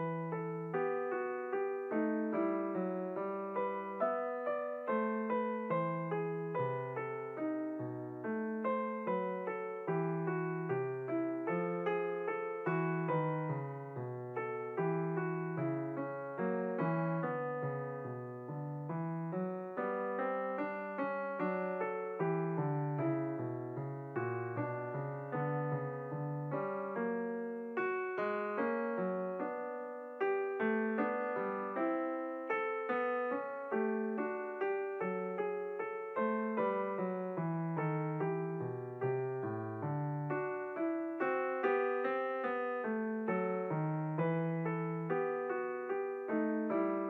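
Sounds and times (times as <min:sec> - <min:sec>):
piano music: 0:00.0 - 0:47.0.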